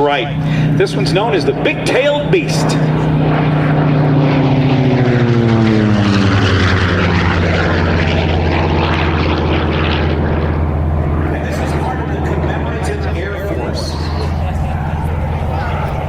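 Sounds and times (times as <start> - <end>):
radial engine plane flyby: 0.0 - 16.0.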